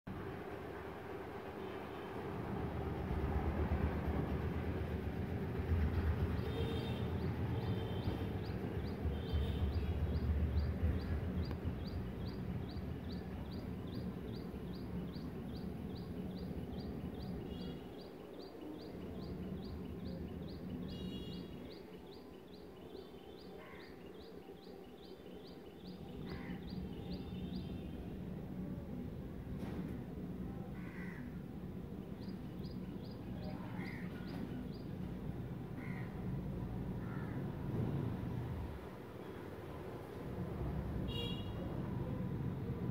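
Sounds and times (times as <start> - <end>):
low rumble of distant traffic: 0.1 - 42.9.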